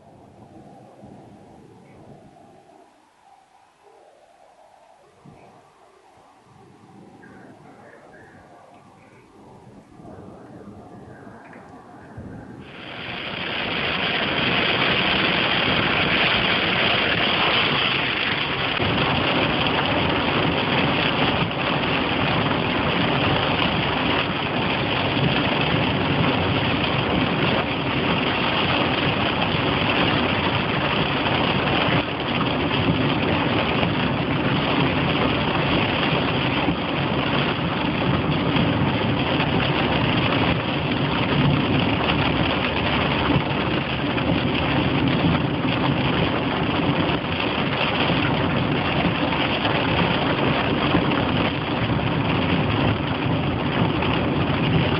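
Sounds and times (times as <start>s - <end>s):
car engine and road noise: 0.0s - 54.9s
heavy rain on car roof: 9.0s - 54.9s.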